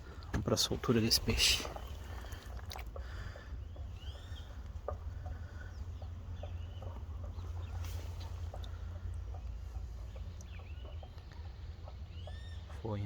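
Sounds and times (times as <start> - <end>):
birds chirping and clucking: 0.0 - 13.0
steady low rumble: 0.0 - 13.0.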